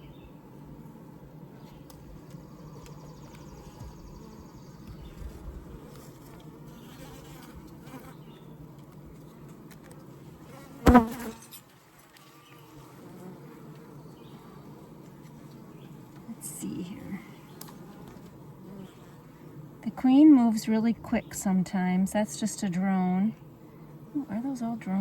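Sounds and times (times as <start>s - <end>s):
bees humming: 0.0s - 11.5s, 12.2s - 25.0s.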